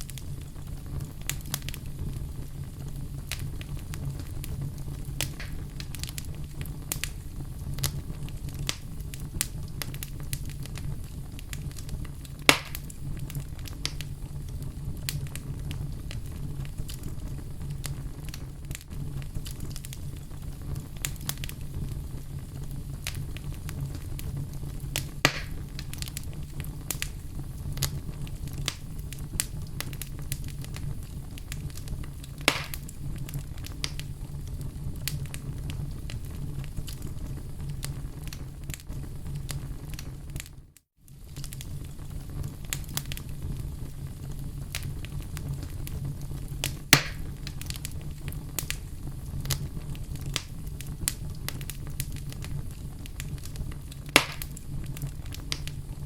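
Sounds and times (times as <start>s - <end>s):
sharp pops from fire: 0.0s - 56.0s
wood fire crackling: 0.0s - 56.0s.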